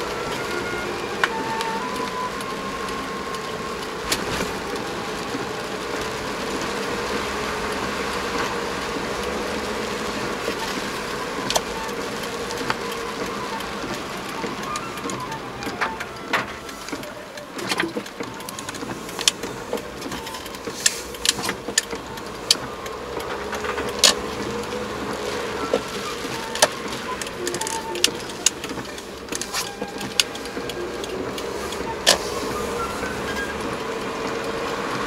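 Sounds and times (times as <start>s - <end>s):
raindrops ticking on car roof: 0.0s - 35.0s
road and engine noise: 0.0s - 35.0s.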